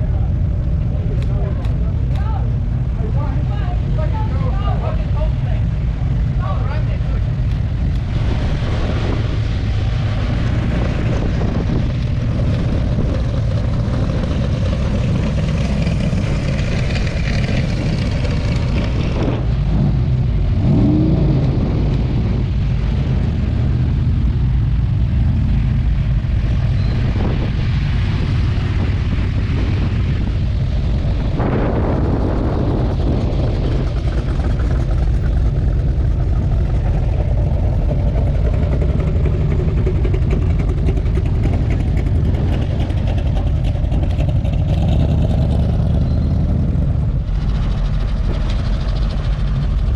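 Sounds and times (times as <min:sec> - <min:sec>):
car engines rumbling past: 0:00.0 - 0:49.9
engine revving: 0:07.9 - 0:49.6.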